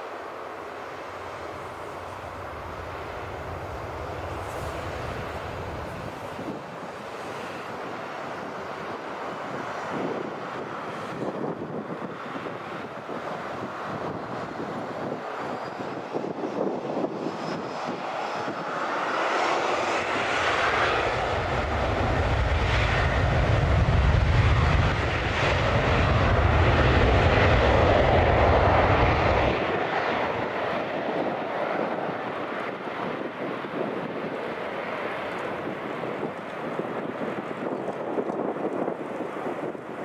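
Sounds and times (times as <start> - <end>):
jet engines whining: 0.0 - 40.0.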